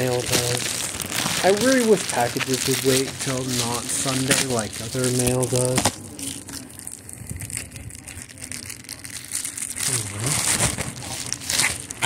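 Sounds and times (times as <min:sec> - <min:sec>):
plastic mailer crinkling: 0:00.0 - 0:06.7, 0:07.4 - 0:12.0.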